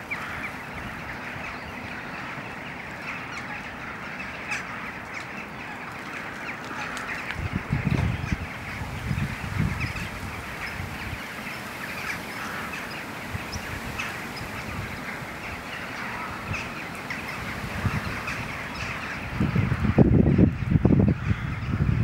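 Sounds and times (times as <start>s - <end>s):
flock of starlings chattering: 0.0s - 22.0s
wind rumbling on microphone: 0.0s - 22.0s.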